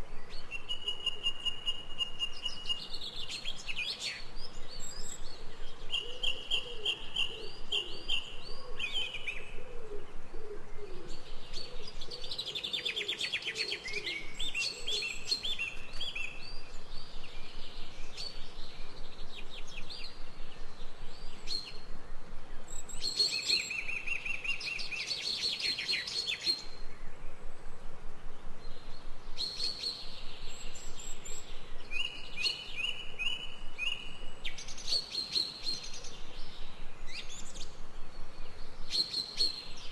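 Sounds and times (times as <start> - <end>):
birds singing whistles and trills: 0.0 - 27.4, 28.5 - 39.9.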